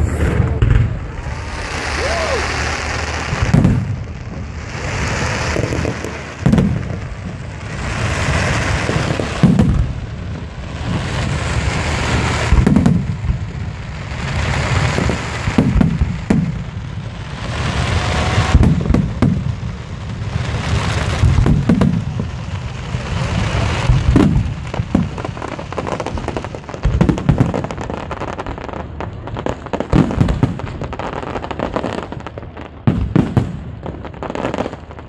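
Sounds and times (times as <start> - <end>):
fireworks booming: 0.0 - 35.0
fireworks crackling: 0.0 - 35.0.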